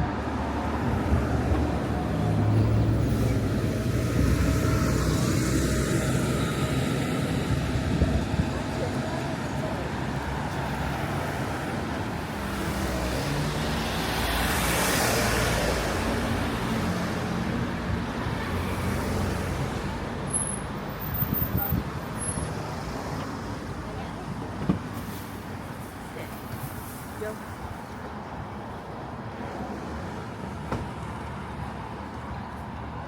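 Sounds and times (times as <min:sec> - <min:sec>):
street noise: 0:00.0 - 0:33.0.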